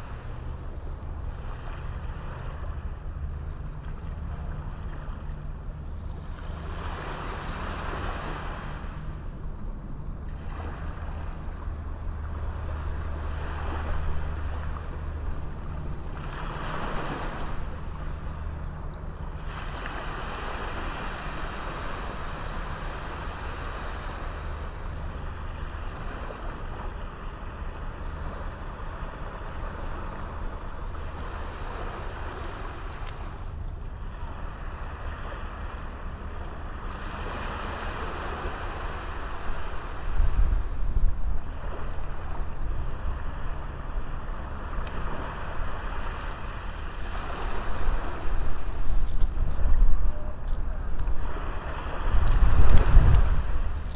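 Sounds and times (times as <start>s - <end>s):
wind rumble on microphone: 0.0s - 53.9s
small waves breaking on beach: 4.1s - 9.4s, 10.3s - 53.9s.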